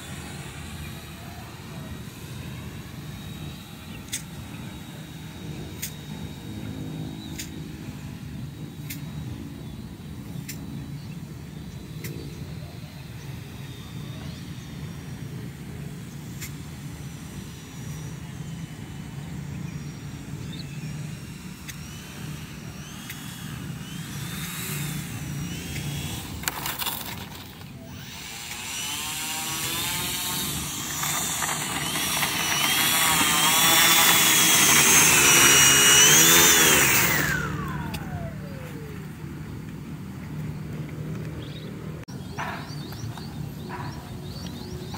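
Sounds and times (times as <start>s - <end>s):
rc plane electric motor whining: 0.0s - 41.6s.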